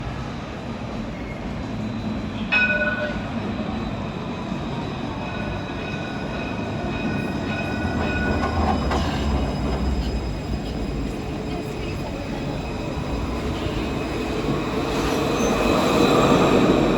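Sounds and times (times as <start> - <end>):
tram rumbling: 0.0 - 16.9.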